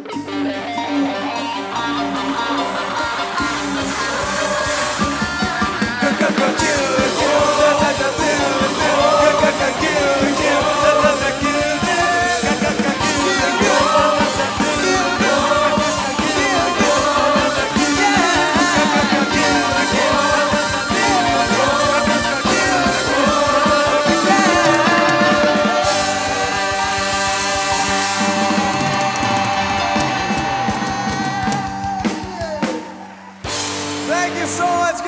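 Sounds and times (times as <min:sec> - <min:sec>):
band playing: 0:00.0 - 0:35.0
choir and male voices singing: 0:01.6 - 0:33.2.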